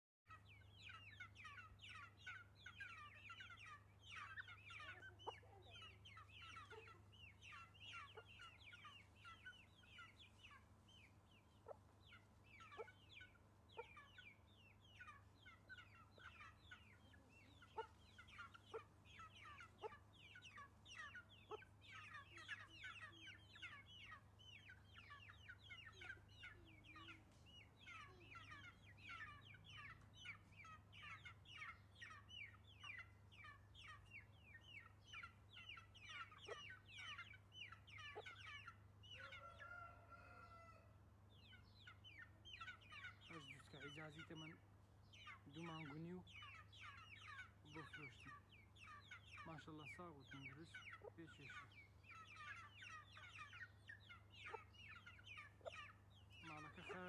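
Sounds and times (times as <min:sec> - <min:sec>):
chicks peeping: 0:00.3 - 0:57.0.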